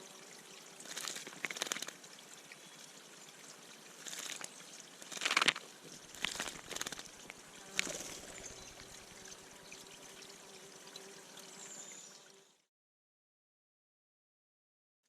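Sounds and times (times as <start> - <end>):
water splashing in bird bath: 0.0 - 12.4.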